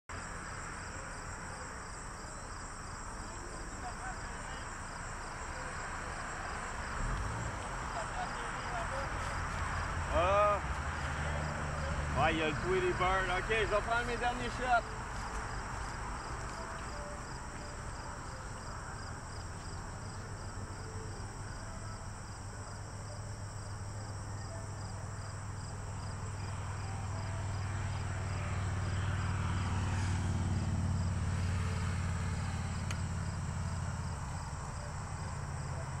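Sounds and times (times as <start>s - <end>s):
insects trilling: 0.1s - 36.0s.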